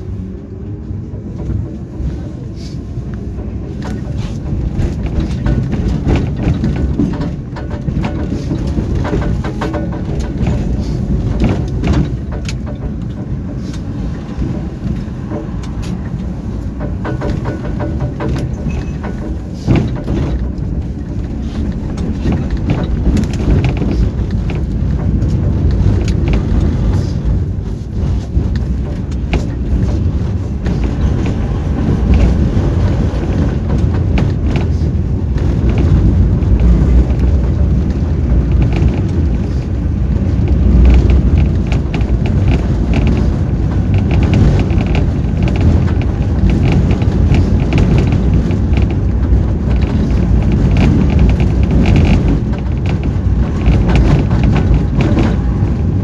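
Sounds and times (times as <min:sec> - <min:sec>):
tram rumbling: 0:00.0 - 0:56.0
wheel and body knocks and rattles: 0:03.2 - 0:56.0.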